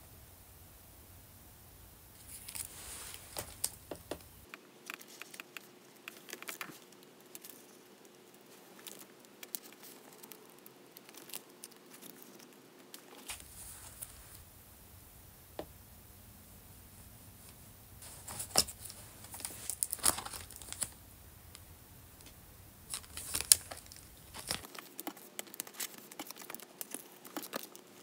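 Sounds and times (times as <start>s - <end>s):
plastic sleeves crinkling: 2.2s - 14.4s, 17.4s - 28.0s.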